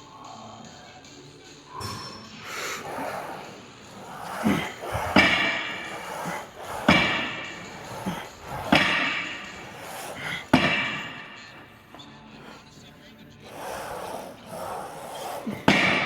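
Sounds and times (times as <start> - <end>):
exercise machine clanking: 1.8 - 16.0.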